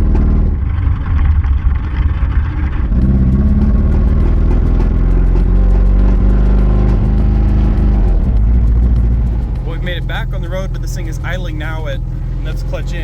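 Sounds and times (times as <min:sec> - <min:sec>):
truck engine running while driving: 0:00.0 - 0:13.0.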